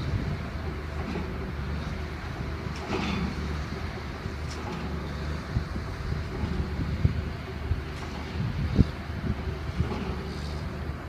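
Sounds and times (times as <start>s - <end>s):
diesel engines droning: 0.0s - 11.0s.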